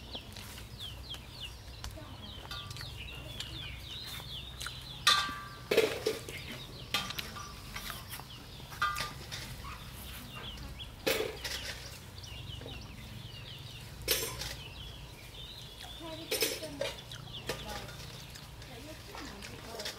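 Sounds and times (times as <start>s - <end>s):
chickens clucking and peeping: 0.0s - 19.9s.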